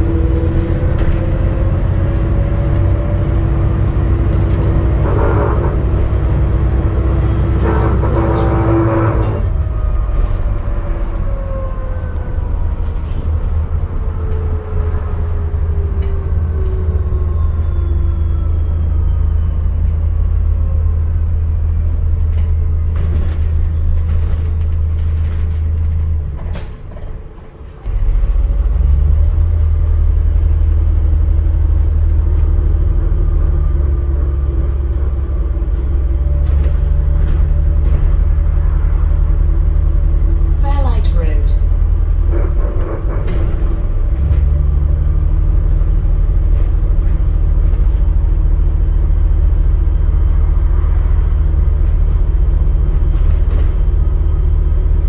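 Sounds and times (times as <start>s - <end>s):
bus drivetrain rumble: 0.0s - 55.0s
bus motor whine: 0.0s - 55.0s.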